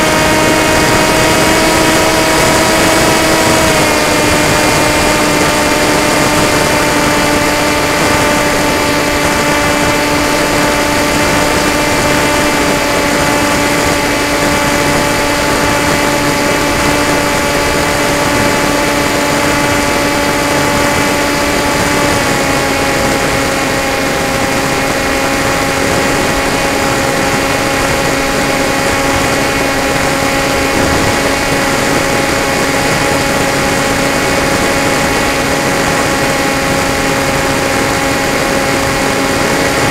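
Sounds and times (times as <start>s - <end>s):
model aircraft electric motor: 0.0s - 39.9s
wind rush: 0.0s - 39.9s.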